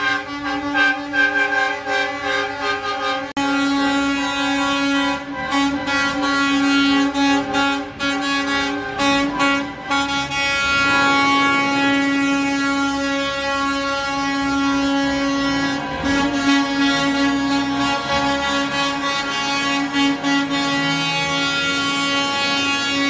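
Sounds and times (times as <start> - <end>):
truck air horn blasts: 0.0 - 23.0.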